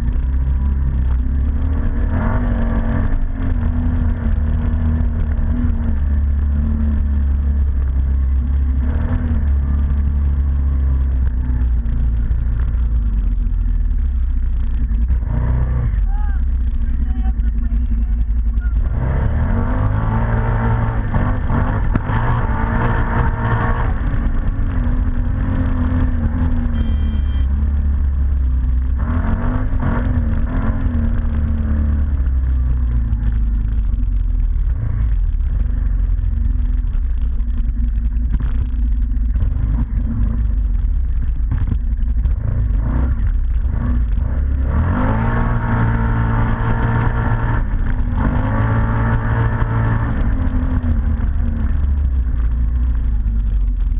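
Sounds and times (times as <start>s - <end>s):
atv engine revving: 0.0s - 53.9s.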